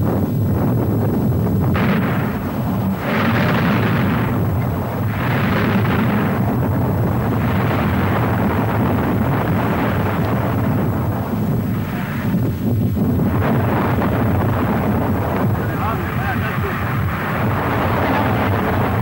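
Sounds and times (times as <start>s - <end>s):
volcano low rumble: 0.0s - 19.0s
eruption hissing roar: 1.7s - 19.0s.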